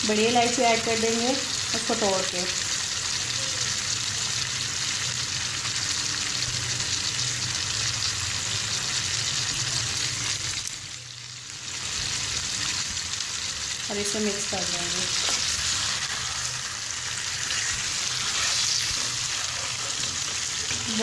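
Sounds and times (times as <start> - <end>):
food frying in oil: 0.0 - 21.0.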